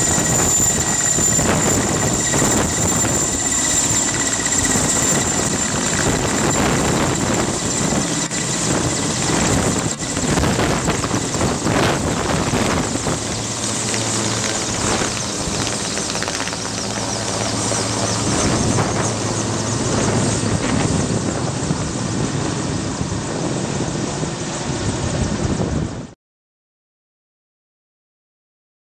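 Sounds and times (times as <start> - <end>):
helicopter flying overhead: 0.0 - 26.2.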